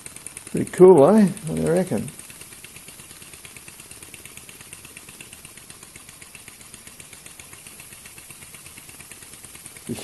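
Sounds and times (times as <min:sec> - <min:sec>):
steam engine chuffing: 0:00.0 - 0:10.0.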